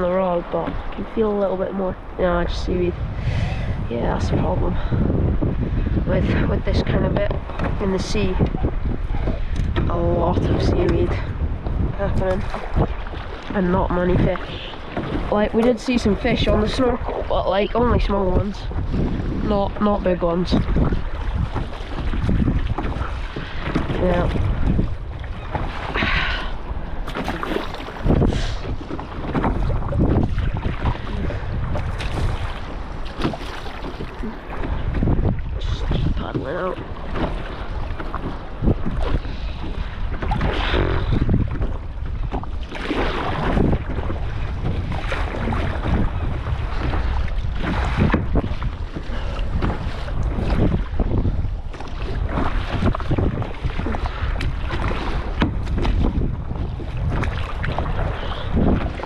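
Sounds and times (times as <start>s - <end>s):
water sloshing and splashing: 0.0s - 59.0s
wind buffeting microphone: 0.0s - 59.0s
paddle knocks: 6.9s - 17.1s, 18.8s - 26.3s, 27.0s - 59.0s.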